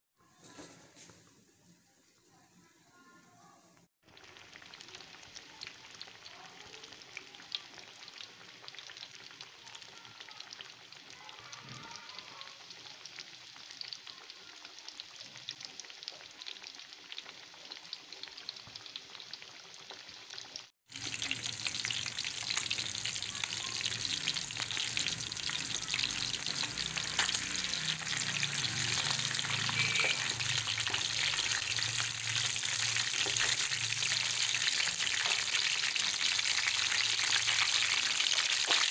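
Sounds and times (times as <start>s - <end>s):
fish sizzling in hot oil: 4.0s - 38.9s.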